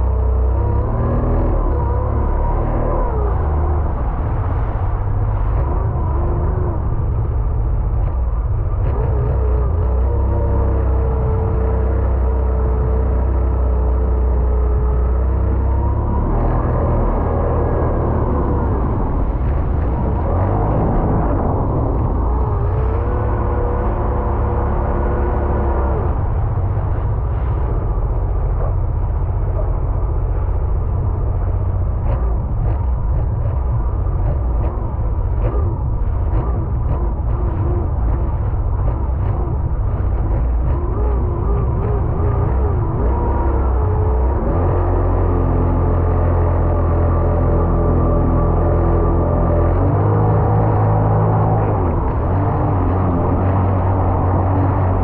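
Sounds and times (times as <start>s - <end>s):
jet ski engine: 0.0s - 55.0s
wind on microphone: 0.0s - 55.0s.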